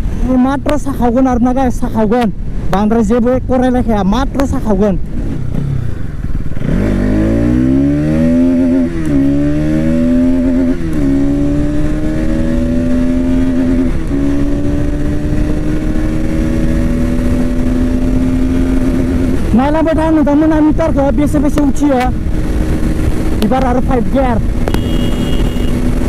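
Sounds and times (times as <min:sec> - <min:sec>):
wind noise: 0:00.0 - 0:26.0
motorcycle engine accelerating: 0:05.0 - 0:26.0.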